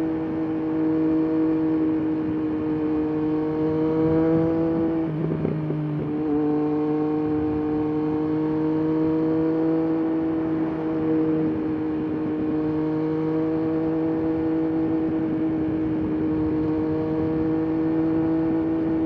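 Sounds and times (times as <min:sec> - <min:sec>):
motorcycle engine and exhaust: 0:00.0 - 0:19.0
wind noise: 0:01.6 - 0:08.3, 0:10.1 - 0:19.0.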